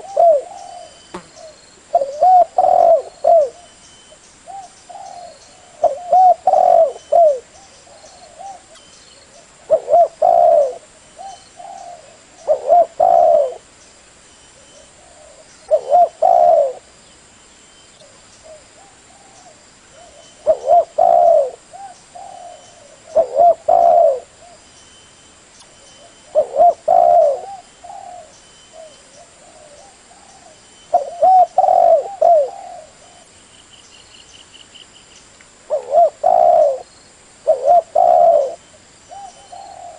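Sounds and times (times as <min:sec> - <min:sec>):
dove cooing: 0:00.0 - 0:03.8, 0:04.5 - 0:13.7, 0:14.6 - 0:16.9, 0:18.0 - 0:24.7, 0:26.0 - 0:33.3, 0:35.7 - 0:39.9.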